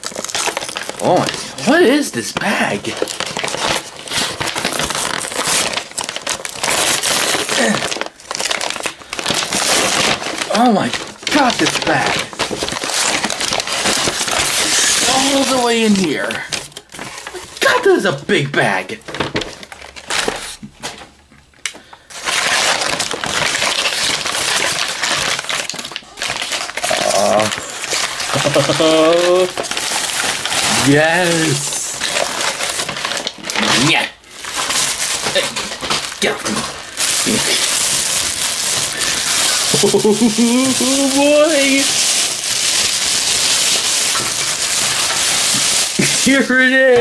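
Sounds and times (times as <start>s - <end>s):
paper bag crumpling: 0.0s - 20.6s, 22.0s - 47.0s.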